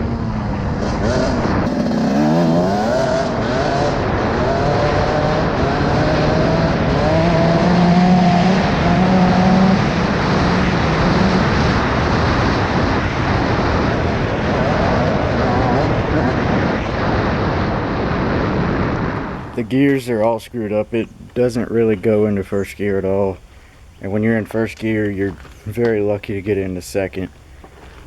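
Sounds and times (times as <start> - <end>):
two-stroke engine revving: 0.0 - 17.6, 19.1 - 28.0.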